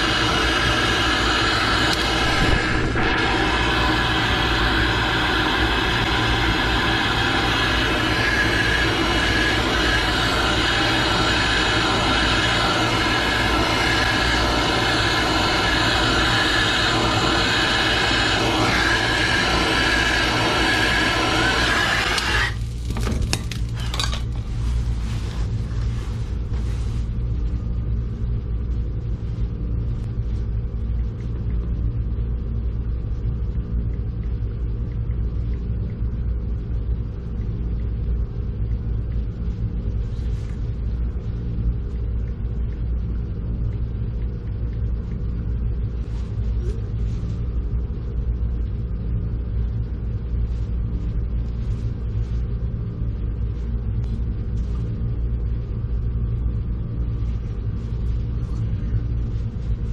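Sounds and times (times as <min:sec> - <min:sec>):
machine rumble and hum: 0:00.0 - 0:59.9.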